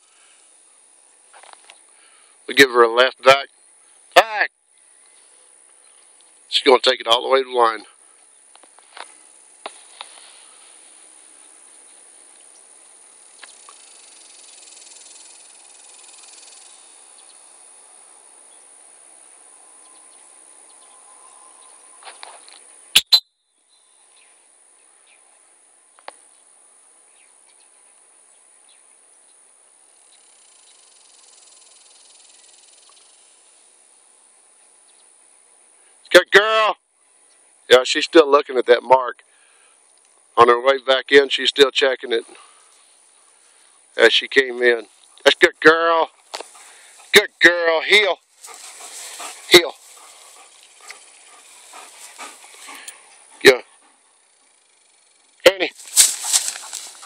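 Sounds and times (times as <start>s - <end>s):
insects trilling in grass: 0.0s - 23.0s, 23.6s - 57.0s.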